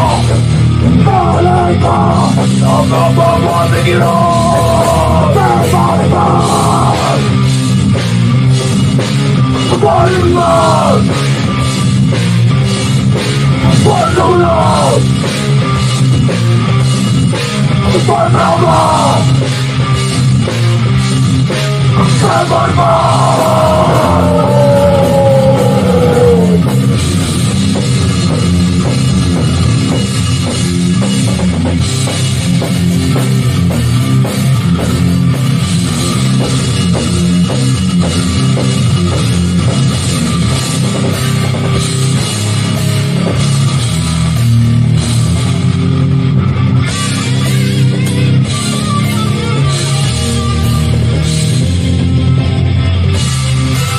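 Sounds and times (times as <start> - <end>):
hardcore band playing: 0.0 - 53.9.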